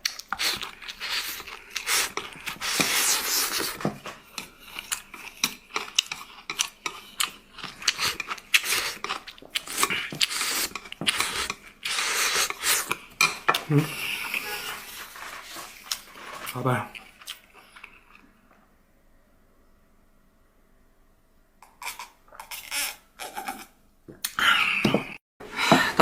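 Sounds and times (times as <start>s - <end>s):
person chewing: 0.0s - 18.6s, 21.6s - 24.8s.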